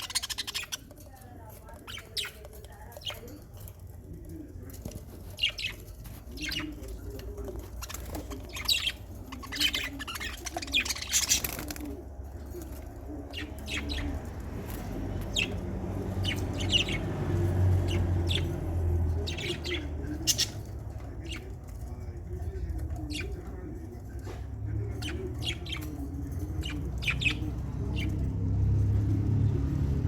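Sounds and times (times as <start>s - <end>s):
love birds chirping: 0.0s - 30.0s.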